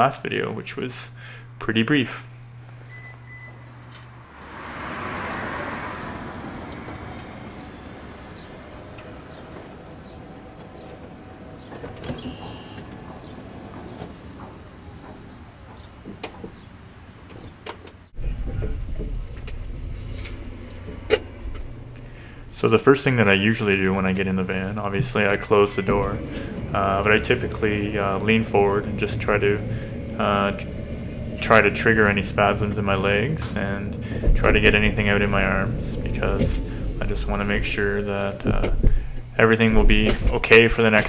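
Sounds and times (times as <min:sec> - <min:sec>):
low rumble inside van: 0:01.2 - 0:41.0
ramp motor whirring: 0:02.7 - 0:16.6, 0:18.2 - 0:40.1
ramp clicks: 0:04.8 - 0:41.0.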